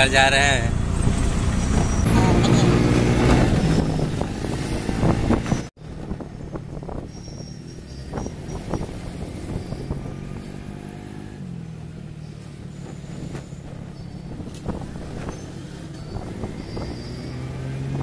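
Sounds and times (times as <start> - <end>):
auto-rickshaw engine running: 0.0 - 18.0.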